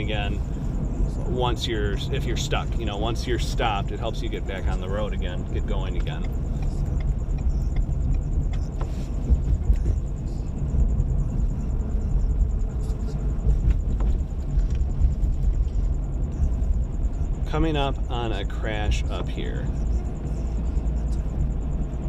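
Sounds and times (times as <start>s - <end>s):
road and engine rumble inside vehicle: 0.0s - 22.0s.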